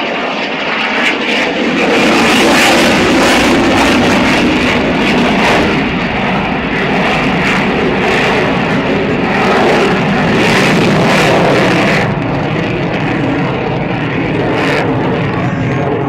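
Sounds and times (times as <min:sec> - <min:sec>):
fighter jet engines roaring: 0:00.0 - 0:16.0.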